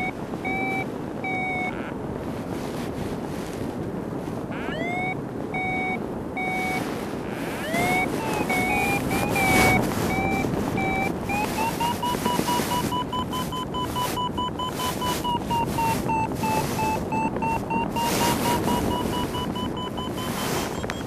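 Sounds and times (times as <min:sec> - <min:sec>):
variometer beeping: 0:00.0 - 0:02.0, 0:04.5 - 0:21.0
wind rush on microphone: 0:00.0 - 0:21.0.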